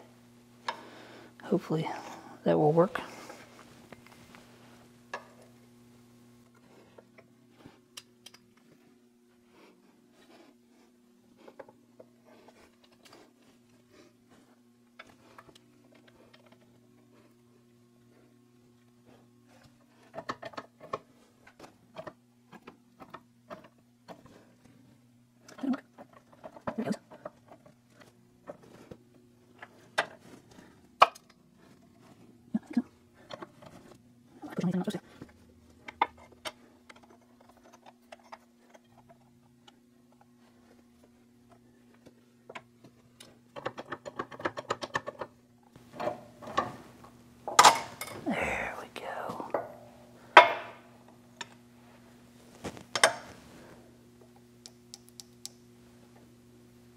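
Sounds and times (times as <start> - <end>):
steady low hum: 0.0 - 43.6, 45.3 - 56.9.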